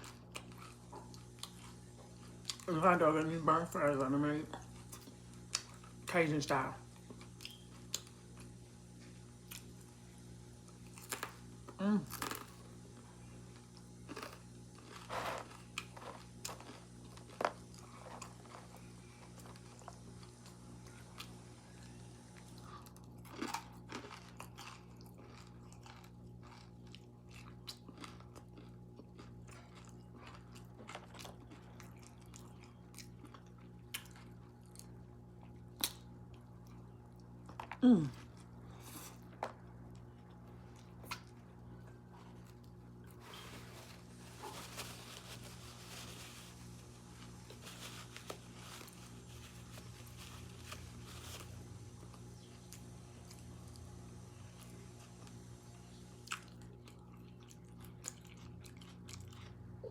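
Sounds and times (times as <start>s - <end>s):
person chewing and crunching: 0.0s - 2.7s, 10.6s - 53.9s, 56.2s - 59.9s
steady low hum: 0.0s - 59.9s.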